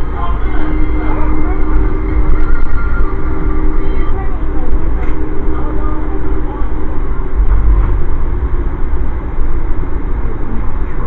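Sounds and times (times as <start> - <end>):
moving train rumbling: 0.0 - 11.0.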